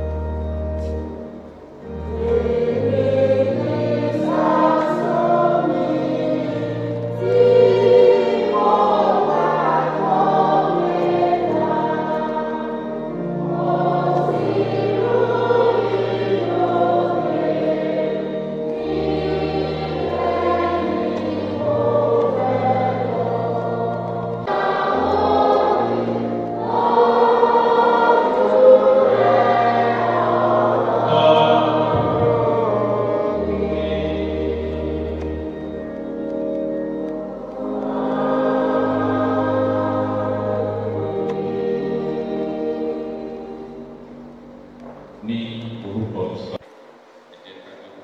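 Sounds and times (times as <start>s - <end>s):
congregation singing a hymn: 0.0s - 46.6s
steady low accompanying tones: 0.0s - 46.6s.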